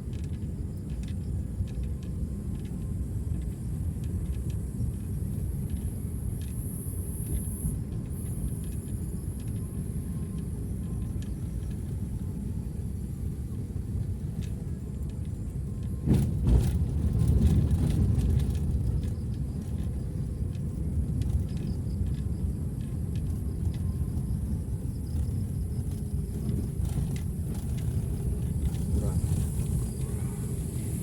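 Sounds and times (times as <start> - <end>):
vehicle rumbling on dirt road: 0.0 - 31.0.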